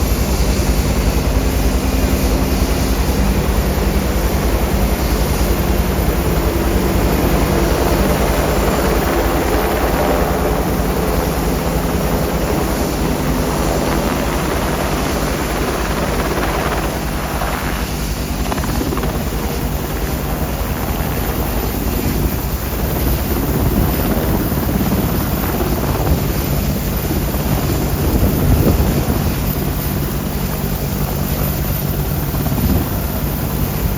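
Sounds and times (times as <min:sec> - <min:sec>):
helicopter rotor beating: 0:00.0 - 0:33.9
turbine engines running: 0:00.0 - 0:33.9.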